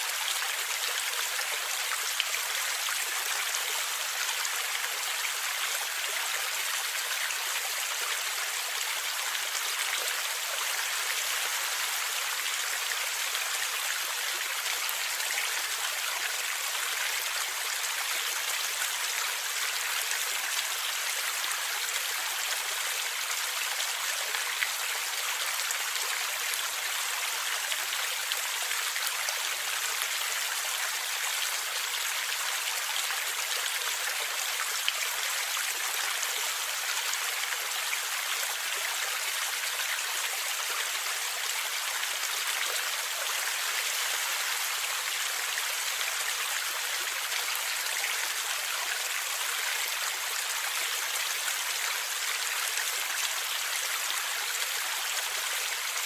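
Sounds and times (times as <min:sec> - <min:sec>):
stream flowing and gurgling: 0:00.0 - 0:56.0.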